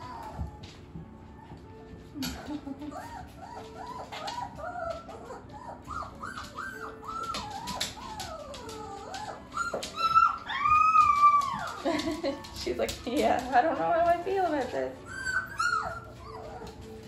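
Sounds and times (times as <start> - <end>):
puppies whimpering: 0.0 - 17.0.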